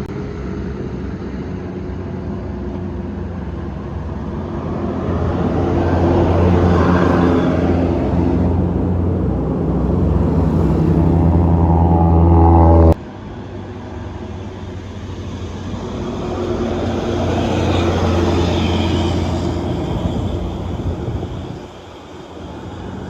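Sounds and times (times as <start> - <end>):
bus passing by: 0.0 - 23.0
bus diesel engine labouring: 0.8 - 23.0.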